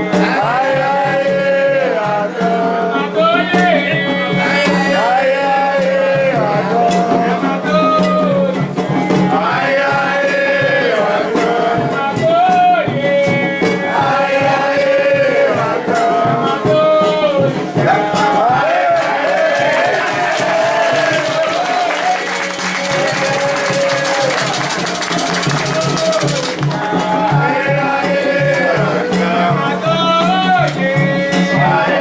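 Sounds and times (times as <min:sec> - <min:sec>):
drum beat: 0:00.0 - 0:32.0
person singing long sliding notes: 0:00.0 - 0:32.0.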